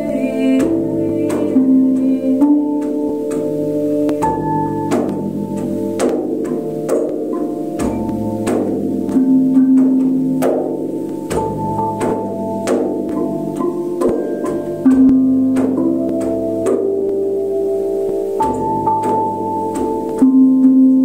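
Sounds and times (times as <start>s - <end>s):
flat metal bells ringing: 0.0s - 21.0s.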